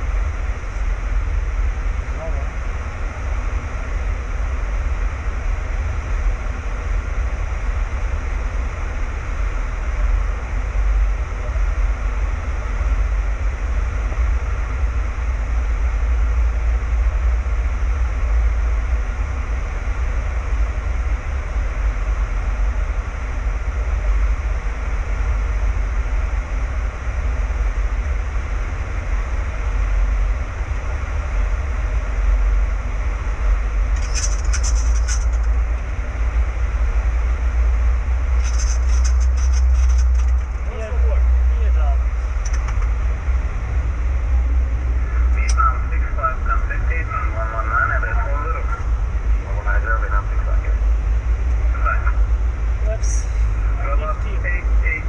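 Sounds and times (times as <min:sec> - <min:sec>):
heavy low rumble: 0:00.0 - 0:55.0
rushing airflow and engine drone: 0:00.0 - 0:55.0.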